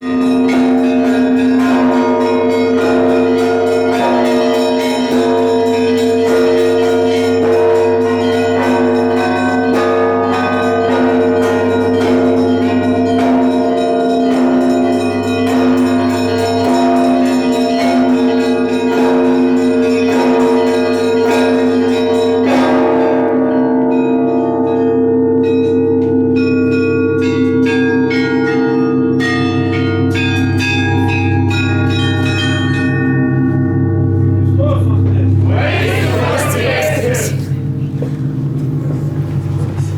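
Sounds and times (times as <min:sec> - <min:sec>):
church bells ringing in quick rhythm: 0:00.0 - 0:34.4
hum of big bells: 0:00.0 - 0:39.9.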